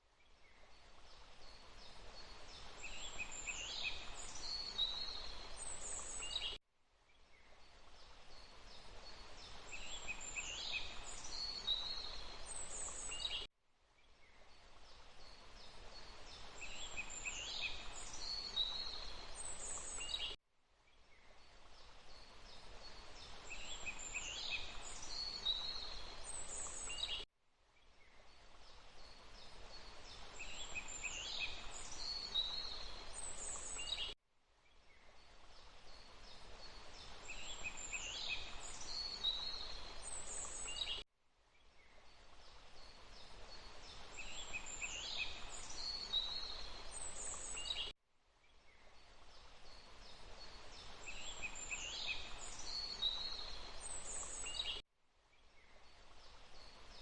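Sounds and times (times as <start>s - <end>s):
background hiss: 0.0s - 27.2s, 27.8s - 57.0s.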